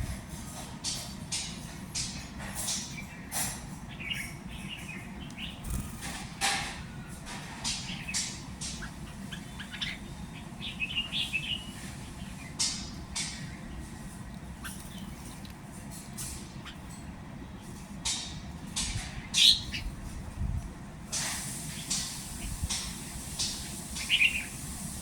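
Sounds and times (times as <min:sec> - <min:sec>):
small birds chirping: 0:00.8 - 0:20.2, 0:21.5 - 0:25.0.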